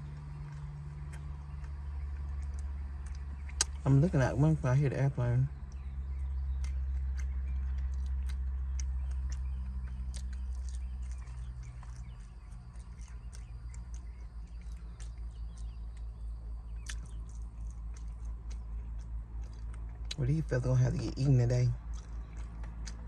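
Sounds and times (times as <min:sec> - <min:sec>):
airplane rumble overhead: 0:00.0 - 0:23.0
chewing crispy chicken: 0:00.0 - 0:23.0
mouth clicks: 0:00.4 - 0:04.2, 0:05.6 - 0:23.0.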